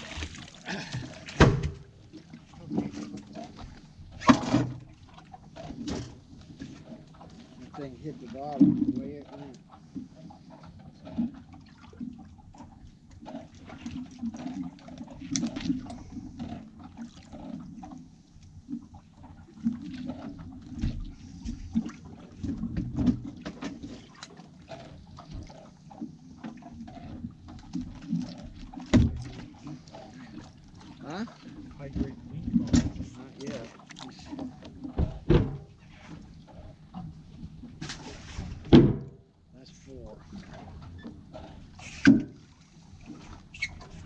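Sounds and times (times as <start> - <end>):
water lapping against boat hull: 0.0 - 44.0.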